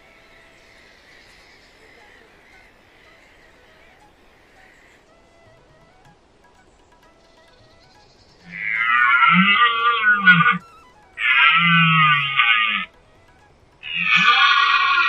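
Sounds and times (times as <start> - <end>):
drawn-out animal calls: 0.0 - 15.0.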